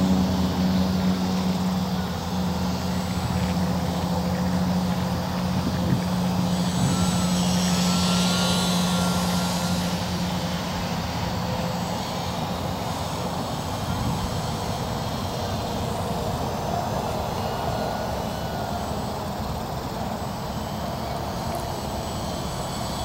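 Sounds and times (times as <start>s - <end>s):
low hum: 0.0s - 23.0s
model plane motor whine: 0.0s - 23.0s.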